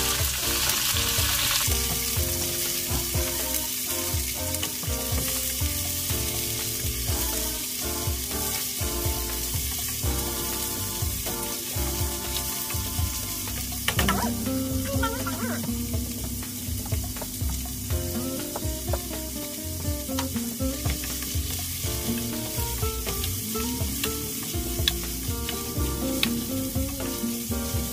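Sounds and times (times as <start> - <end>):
carrot sizzling in hot oil: 0.0 - 27.9
soft background music: 0.0 - 27.9.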